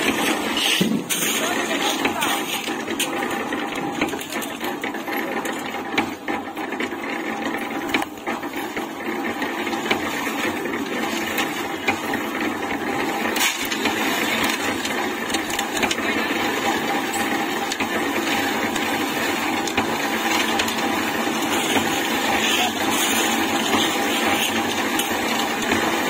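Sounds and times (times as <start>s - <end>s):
clicks and knocks of tumbling mix: 0.0s - 26.0s
concrete mixer running: 0.0s - 26.0s.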